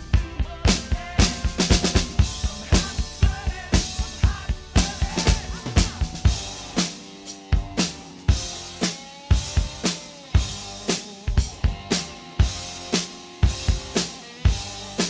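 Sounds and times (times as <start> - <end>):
rock drum kit beat: 0.0 - 15.0.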